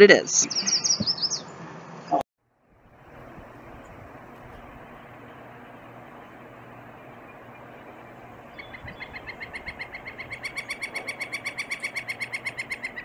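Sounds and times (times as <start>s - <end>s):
woodpecker drumming: 2.5s - 13.0s.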